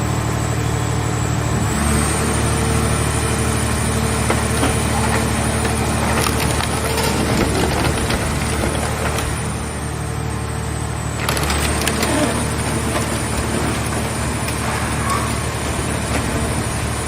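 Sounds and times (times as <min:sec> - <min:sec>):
baler engine and hydraulic hum: 0:00.0 - 0:17.0.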